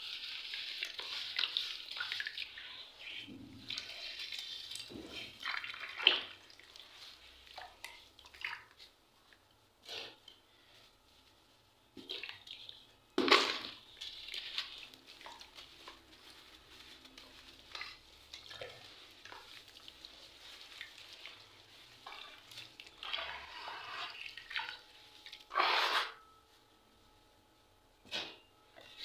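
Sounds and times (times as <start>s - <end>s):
water splashing and sloshing in bucket: 0.0s - 10.2s, 11.9s - 26.2s.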